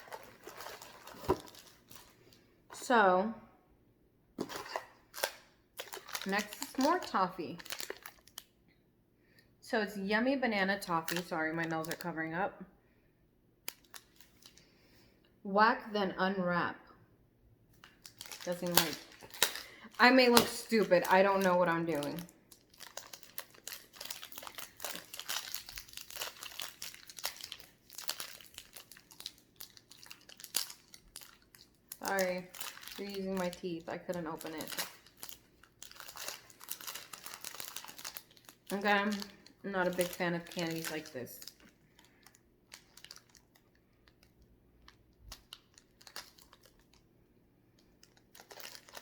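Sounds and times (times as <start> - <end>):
candy wrapper crinkling: 0.0 - 2.4, 4.4 - 8.6, 10.8 - 12.2, 13.6 - 14.6, 17.8 - 49.0.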